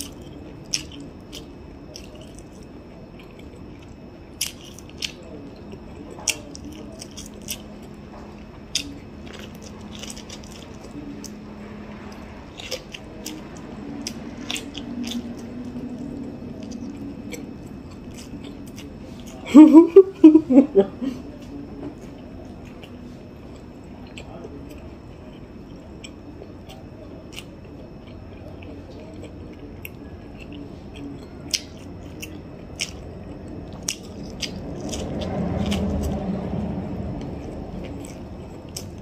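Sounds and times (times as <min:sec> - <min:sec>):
chewing: 0:00.0 - 0:20.1, 0:21.4 - 0:39.0.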